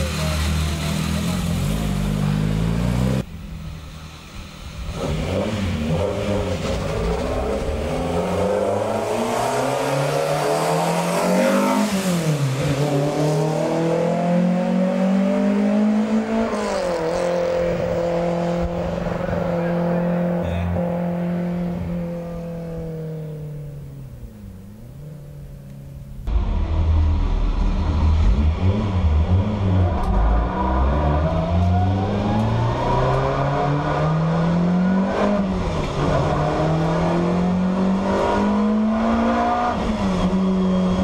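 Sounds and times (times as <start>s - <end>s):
racing car engine revving: 4.8s - 24.0s, 26.2s - 41.0s.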